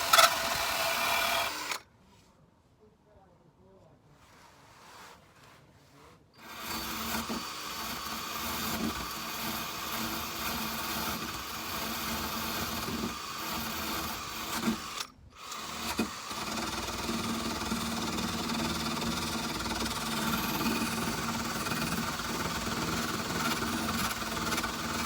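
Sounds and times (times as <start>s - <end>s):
wire wheel tool whirring: 0.0s - 1.8s, 6.4s - 25.0s.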